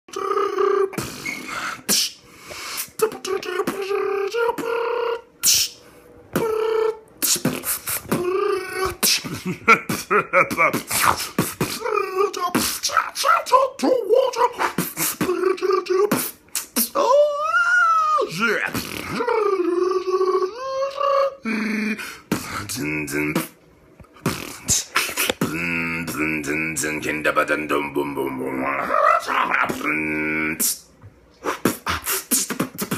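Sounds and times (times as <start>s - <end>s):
man beatboxing: 0.1s - 23.6s, 24.2s - 32.9s.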